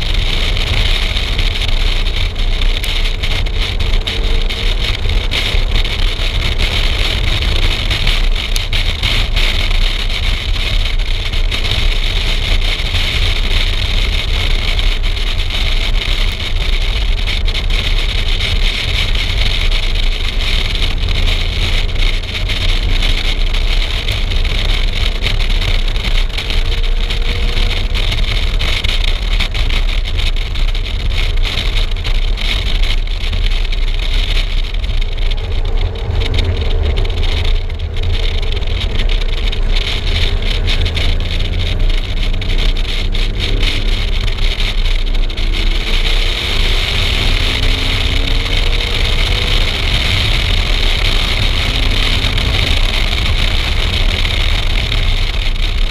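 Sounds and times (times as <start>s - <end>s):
car engine rising and falling: 0.0s - 55.9s.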